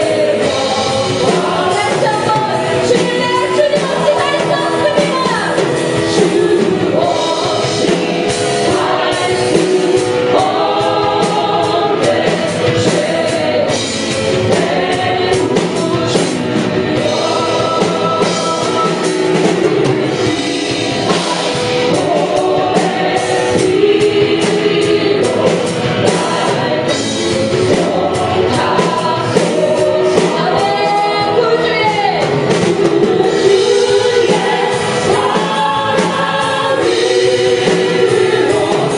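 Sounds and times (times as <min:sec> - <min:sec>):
congregation singing: 0:00.0 - 0:38.9
praise band playing: 0:00.0 - 0:38.9.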